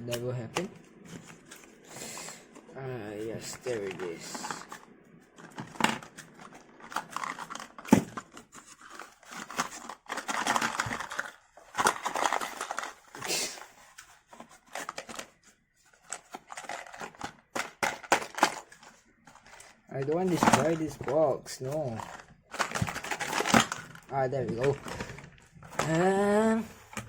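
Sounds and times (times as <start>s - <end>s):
plastic packaging crinkling: 0.6s - 27.0s.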